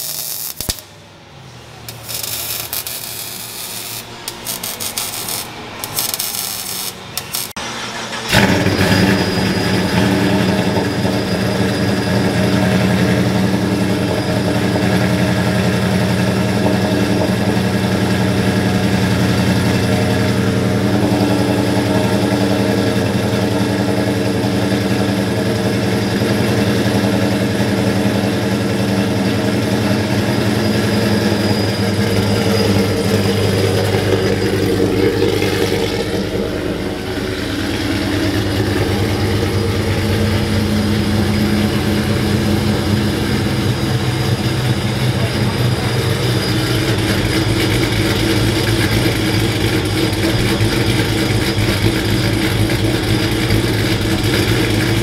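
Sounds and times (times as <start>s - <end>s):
engine idling low rumble: 6.9s - 55.0s.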